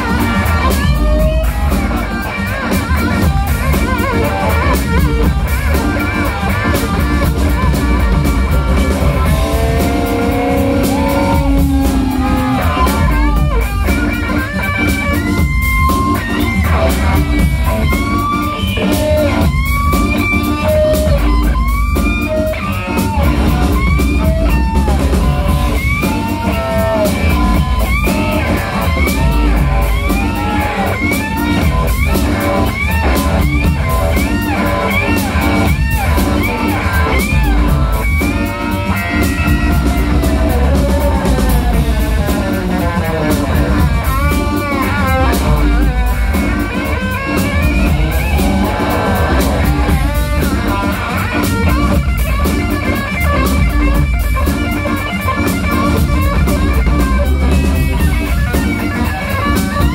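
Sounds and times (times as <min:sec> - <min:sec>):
drum kit: 0:00.0 - 0:59.9
electric guitar solo: 0:00.0 - 0:59.9
organ bass line: 0:00.0 - 0:59.9.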